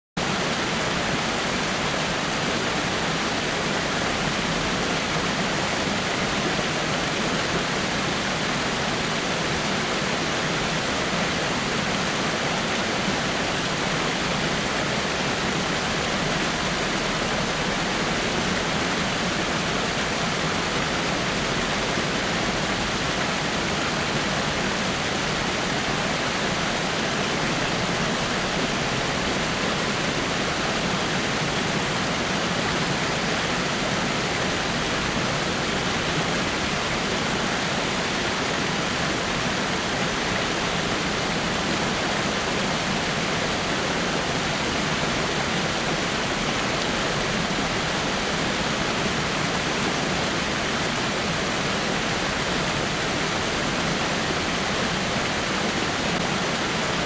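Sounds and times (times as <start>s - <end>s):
waterfall rushing over rocks: 0.2s - 57.0s.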